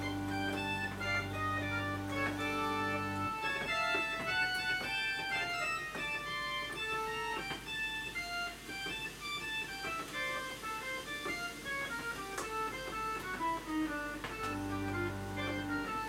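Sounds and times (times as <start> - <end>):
organ improvisation: 0.0 - 16.0.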